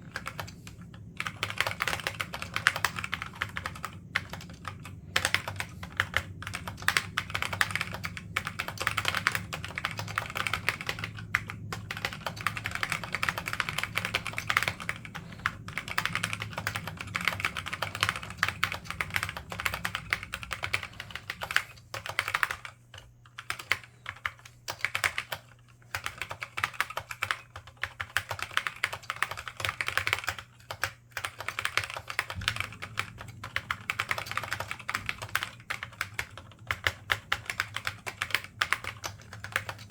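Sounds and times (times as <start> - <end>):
fast typing on laptop keyboard: 0.0 - 39.9.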